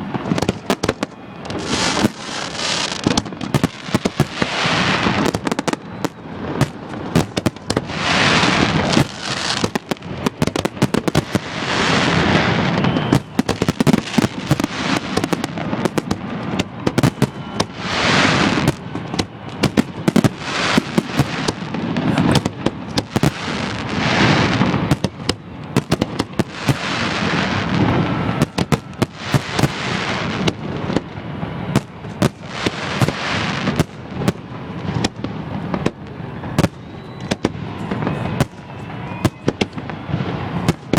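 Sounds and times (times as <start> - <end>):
fireworks exploding: 0.0 - 40.9.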